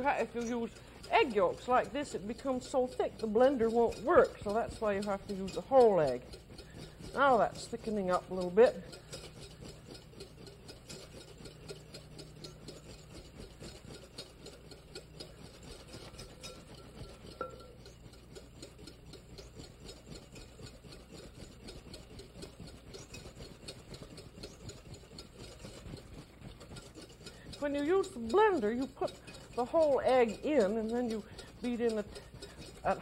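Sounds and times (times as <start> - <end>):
whisk scraping against bowl: 0.0 - 33.0.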